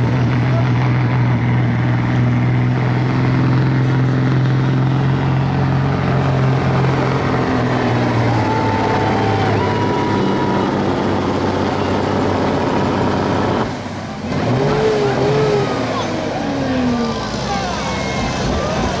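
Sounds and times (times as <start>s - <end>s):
truck diesel engine at full throttle: 0.0s - 19.0s.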